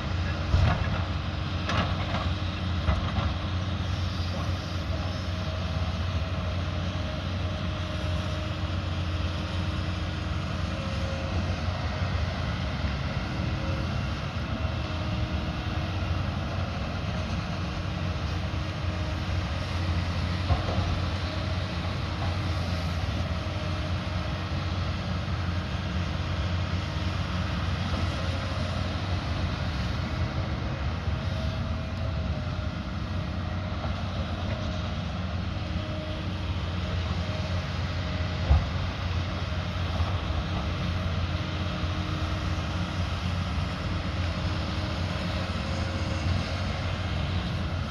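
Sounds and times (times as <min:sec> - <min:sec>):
diesel engine droning: 0:00.0 - 0:47.9.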